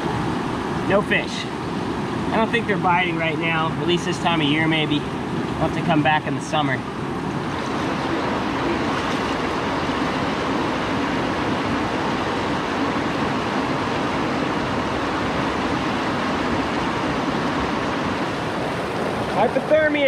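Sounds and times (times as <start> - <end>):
creek rushing over rapids: 0.0 - 20.0.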